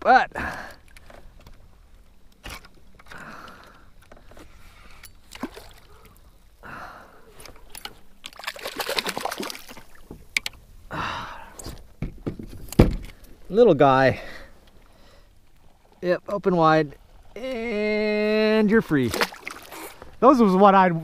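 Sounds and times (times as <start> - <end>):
water splashing and sloshing: 0.4 - 20.9.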